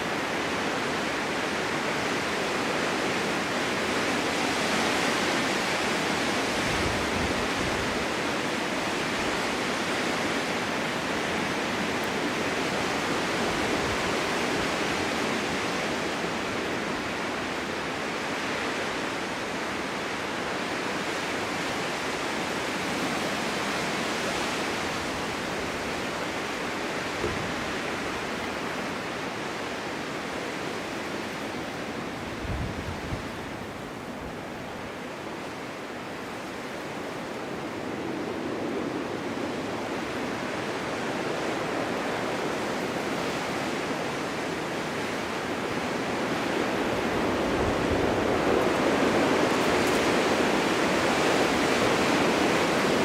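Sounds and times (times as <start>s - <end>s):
snowstorm wind blowing: 0.0s - 53.0s.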